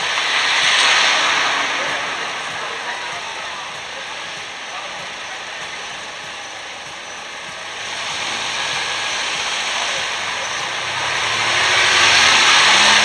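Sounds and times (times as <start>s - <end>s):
car engine driving past: 0.0s - 13.0s
steady rushing noise: 0.0s - 13.0s.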